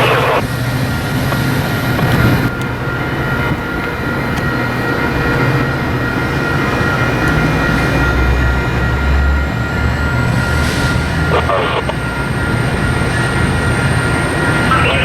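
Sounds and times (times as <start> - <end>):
diesel locomotive engine drone: 0.0 - 15.0
high whine: 0.0 - 15.0.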